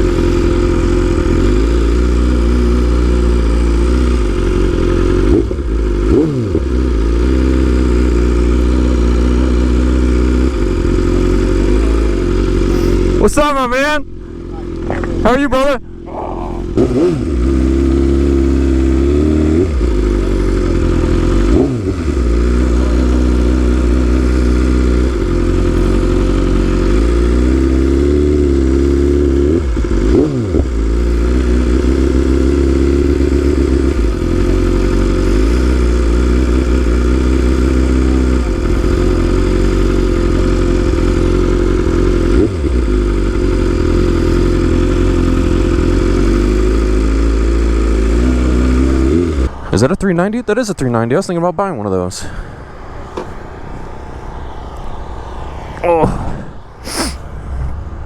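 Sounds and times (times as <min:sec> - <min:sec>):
motorcycle engine running: 0:00.0 - 0:49.7.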